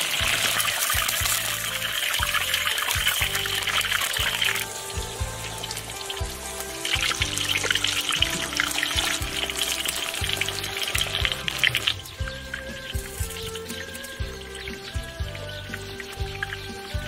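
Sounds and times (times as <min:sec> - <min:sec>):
background music with beat: 0:00.0 - 0:17.0
chicken sizzling in hot oil: 0:00.0 - 0:17.0.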